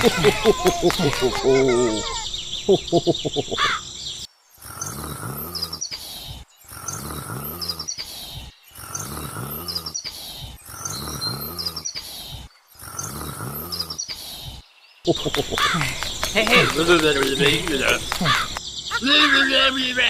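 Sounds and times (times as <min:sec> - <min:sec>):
chirps: 0:00.0 - 0:20.0.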